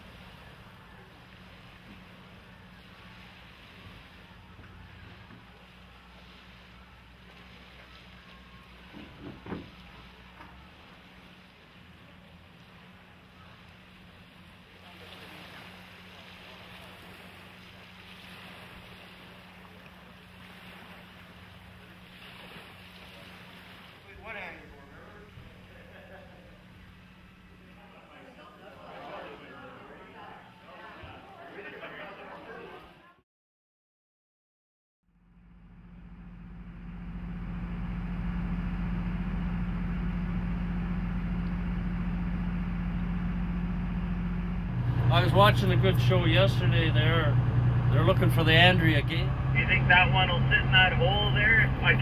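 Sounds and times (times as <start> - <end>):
water wash: 0.0 - 30.2, 35.7 - 52.0
boat engine droning: 0.0 - 33.0, 35.1 - 52.0.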